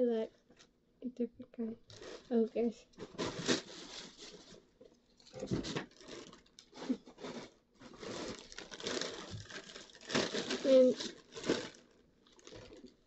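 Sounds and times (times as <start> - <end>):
plastic bag rustling: 1.8 - 13.0.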